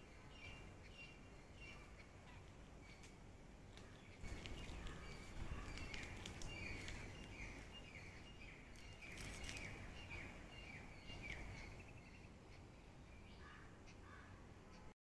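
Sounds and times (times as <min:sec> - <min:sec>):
low background rumble: 0:00.0 - 0:14.9.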